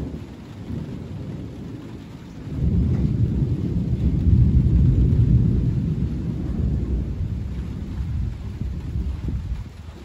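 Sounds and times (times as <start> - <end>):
faint rain hiss: 0.0 - 10.0
thunder rumbling: 0.0 - 10.0.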